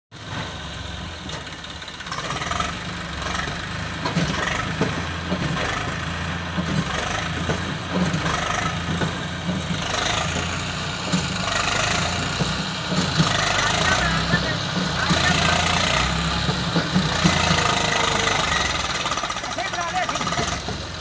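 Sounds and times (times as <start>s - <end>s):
tractor diesel engine under load: 0.1s - 21.0s.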